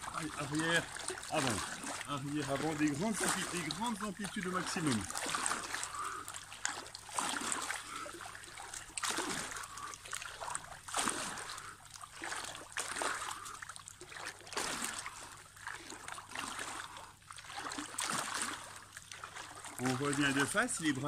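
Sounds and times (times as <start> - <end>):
pool water splashing: 0.0 - 21.0.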